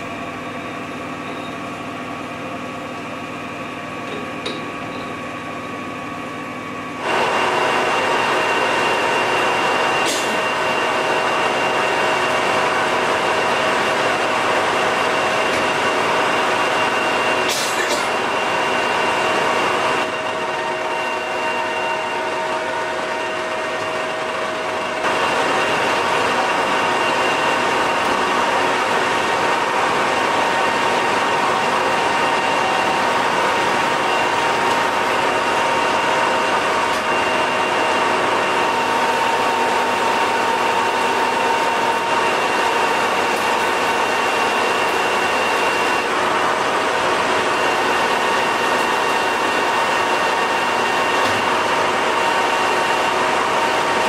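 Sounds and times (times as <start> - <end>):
lathe machine whine: 0.0 - 54.0.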